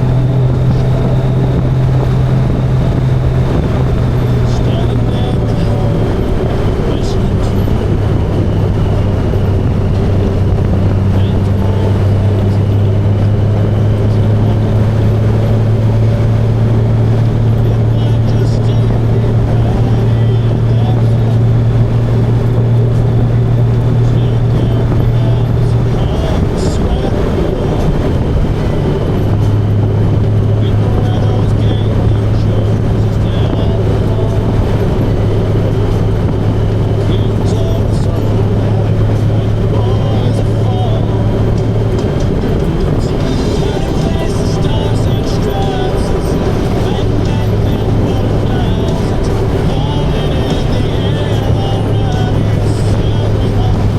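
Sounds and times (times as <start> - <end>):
motorcycle engine cruising: 0.0 - 53.9
wind and road noise: 0.0 - 53.9.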